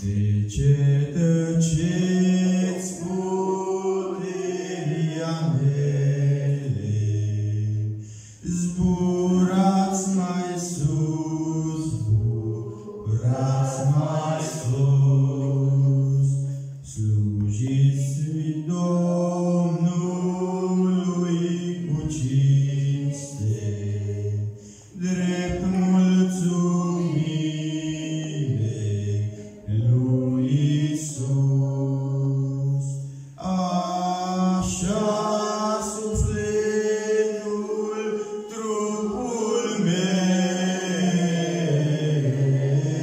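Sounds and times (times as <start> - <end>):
man singing a hymn: 0.0 - 43.0.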